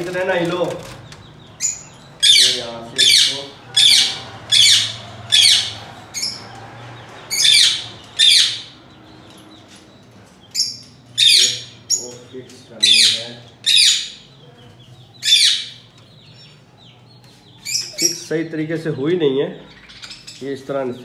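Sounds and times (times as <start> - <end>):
birds squawking: 0.0 - 21.0.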